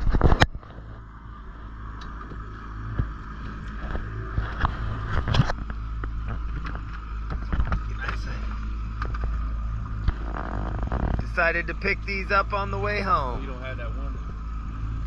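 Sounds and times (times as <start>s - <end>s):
outboard motor running: 0.0s - 15.0s
water along hull: 0.0s - 15.0s.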